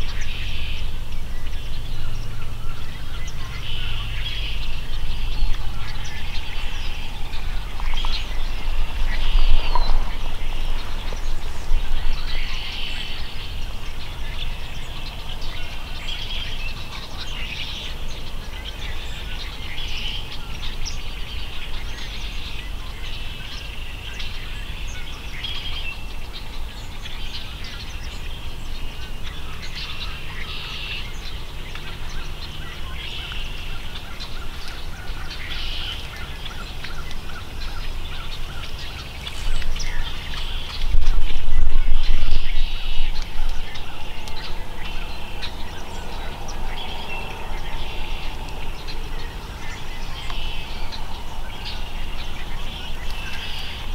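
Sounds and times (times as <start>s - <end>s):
low steady rumble: 0.0s - 53.9s
small birds chirping: 0.0s - 53.9s.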